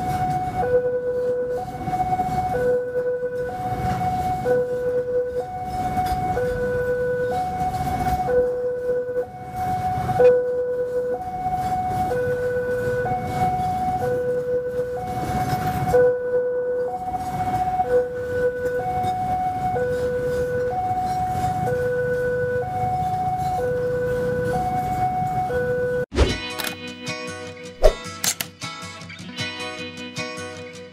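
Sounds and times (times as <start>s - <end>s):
level crossing two-tone alarm: 0.0s - 26.7s.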